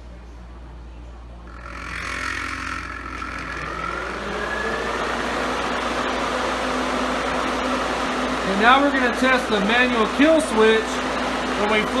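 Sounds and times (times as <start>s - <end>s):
electric cooling fans whining: 0.0s - 12.0s.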